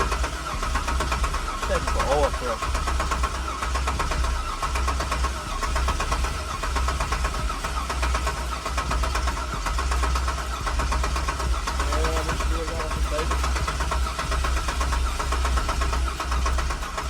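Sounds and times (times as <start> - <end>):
starter motor cranking engine: 0.0 - 17.0.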